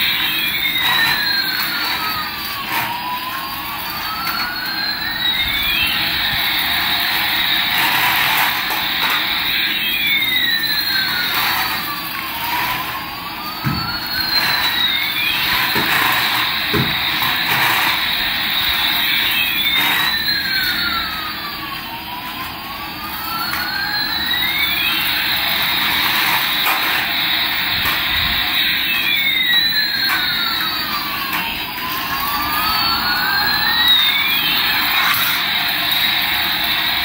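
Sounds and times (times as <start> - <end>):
sweeping electronic tones: 0.0 - 37.0
toy jet rushing noise: 0.0 - 37.0.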